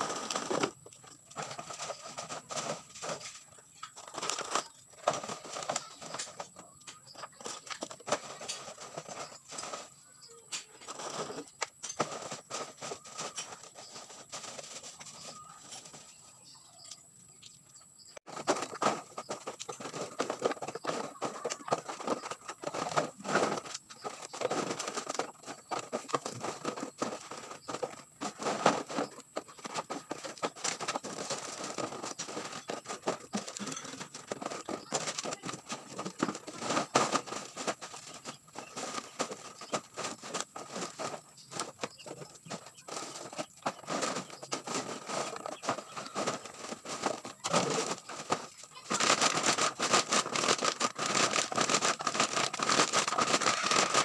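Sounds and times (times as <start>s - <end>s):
plastic bottles crackling: 0.0s - 16.2s, 18.2s - 54.0s.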